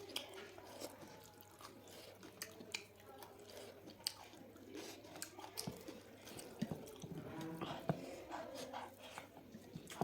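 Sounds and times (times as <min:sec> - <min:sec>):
person chewing wet smacks: 0:00.0 - 0:10.0.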